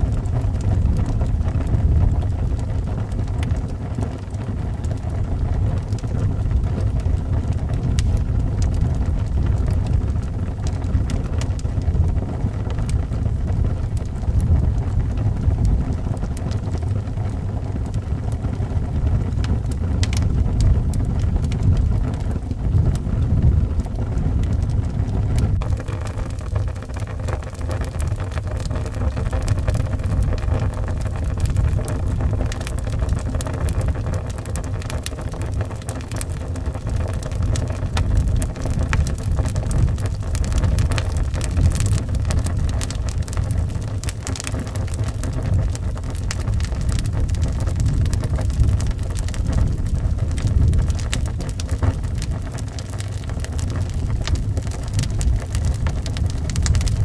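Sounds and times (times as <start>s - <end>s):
howling wind: 0.0s - 57.0s
rain: 0.0s - 57.0s
wood fire crackling and popping: 0.0s - 57.0s.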